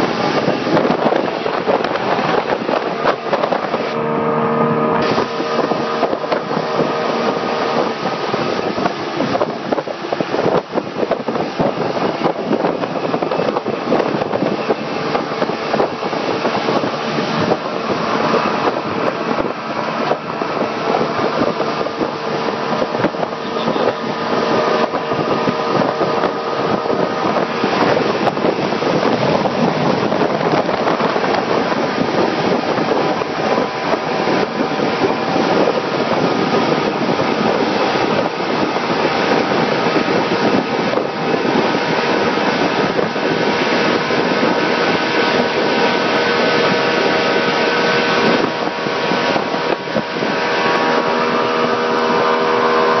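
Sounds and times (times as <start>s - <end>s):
motorboat engine drone: 0.0s - 53.0s
wind buffeting microphone: 0.0s - 53.0s.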